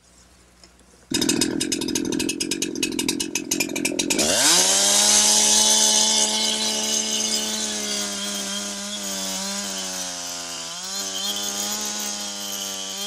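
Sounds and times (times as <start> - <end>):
chainsaw idling and revving: 1.1 - 13.0.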